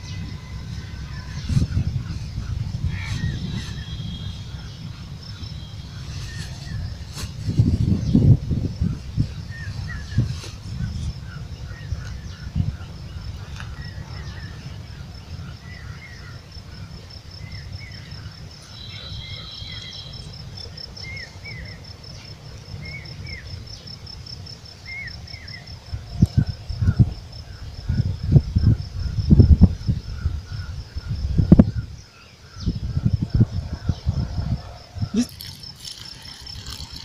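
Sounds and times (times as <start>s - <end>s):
insects chirping: 0.0s - 37.0s.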